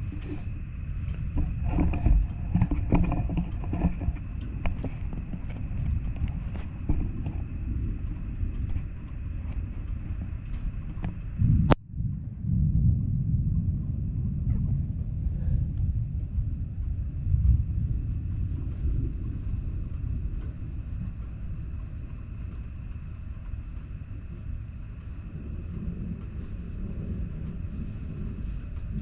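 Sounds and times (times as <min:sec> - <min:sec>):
thunder cracking and rumbling: 0:00.0 - 0:29.0.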